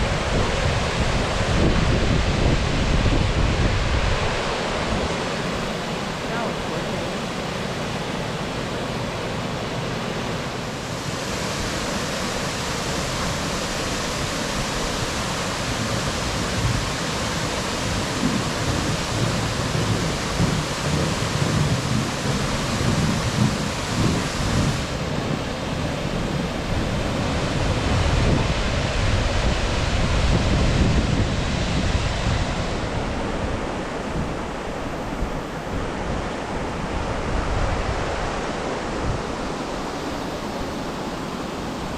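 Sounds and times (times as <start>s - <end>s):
wind buffeting microphone: 0.0s - 8.8s, 10.6s - 41.9s
waterfall rushing: 0.0s - 41.9s.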